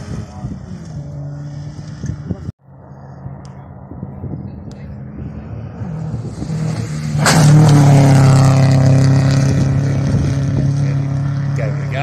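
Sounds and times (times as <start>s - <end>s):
rally car engine passing at speed: 0.0s - 12.0s.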